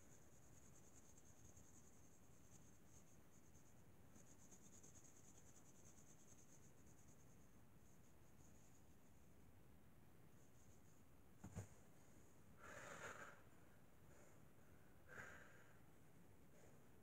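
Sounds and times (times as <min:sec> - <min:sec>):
faint high-pitched hiss: 0:00.0 - 0:17.0.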